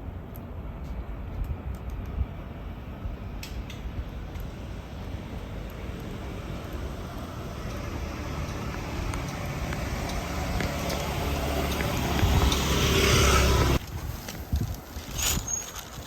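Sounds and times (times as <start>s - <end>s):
road vehicle approaching: 0.0s - 16.0s.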